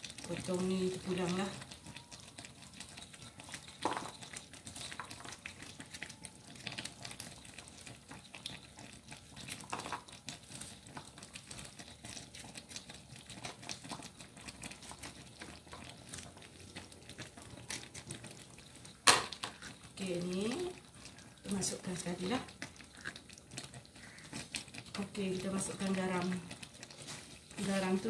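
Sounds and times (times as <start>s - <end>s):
curry bubbling and crackling: 0.0s - 28.0s.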